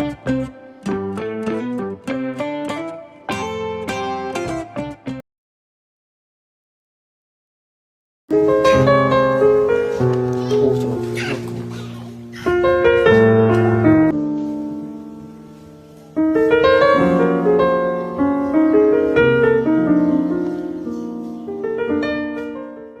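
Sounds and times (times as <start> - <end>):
piano chords ringing: 0.0 - 5.2, 8.3 - 23.0.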